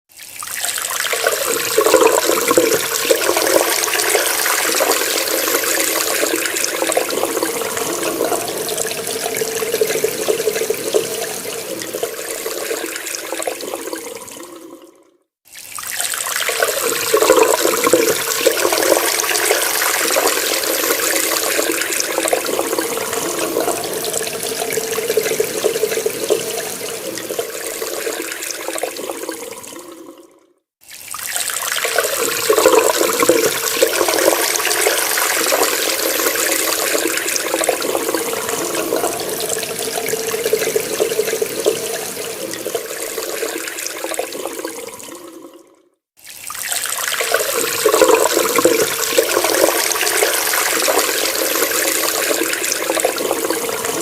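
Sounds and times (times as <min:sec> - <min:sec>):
water running from a tap: 0:00.1 - 0:30.2, 0:30.8 - 0:54.0.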